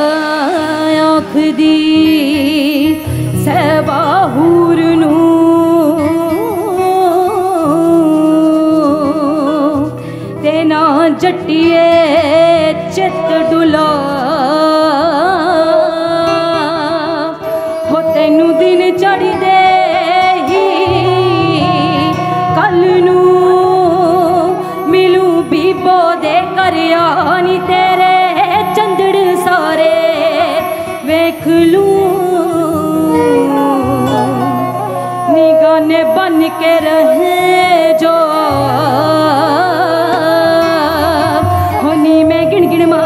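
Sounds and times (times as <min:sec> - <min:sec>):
woman singing folk song: 0:00.0 - 0:43.0.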